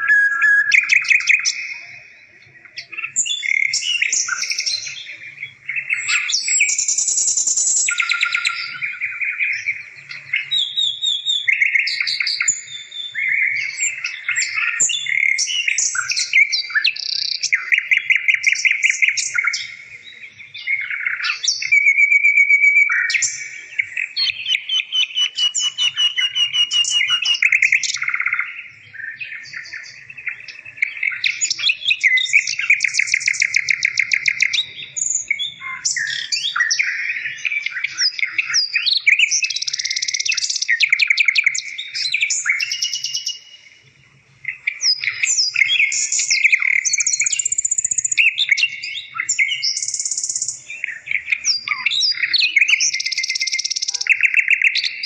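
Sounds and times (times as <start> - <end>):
songbird chirping and trilling: 0.0 - 55.0.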